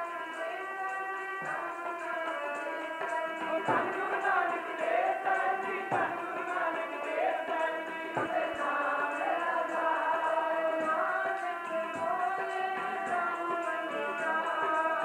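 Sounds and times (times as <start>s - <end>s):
harmonium held tones: 0.0s - 15.0s
tabla: 0.0s - 15.0s
women singing together: 2.6s - 15.0s.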